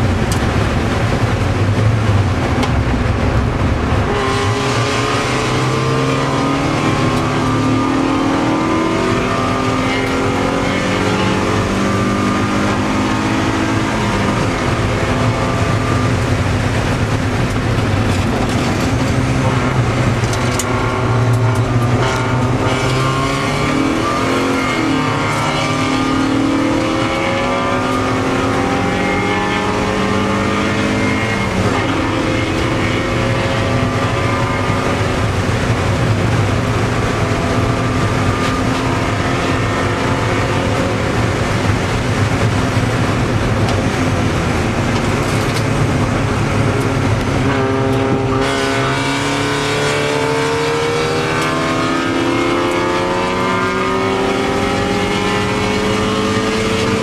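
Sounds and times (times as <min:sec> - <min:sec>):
race car engine accelerating: 0:00.0 - 0:57.0
wind and road noise: 0:00.0 - 0:57.0.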